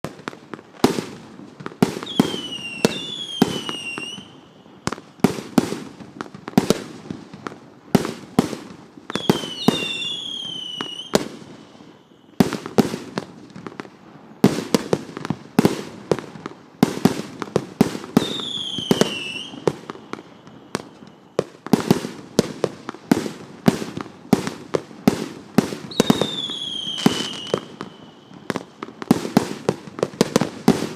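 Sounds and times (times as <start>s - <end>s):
fireworks crackling: 0.0s - 30.9s
fireworks shots and bursts: 0.0s - 30.9s.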